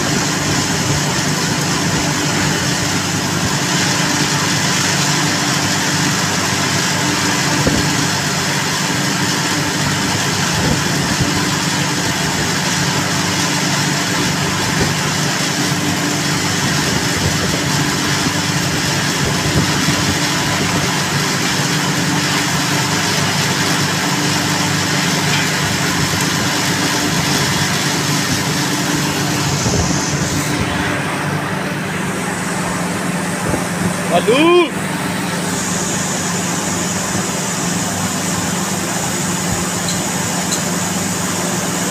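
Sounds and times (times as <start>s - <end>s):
machinery humming: 0.0s - 41.9s.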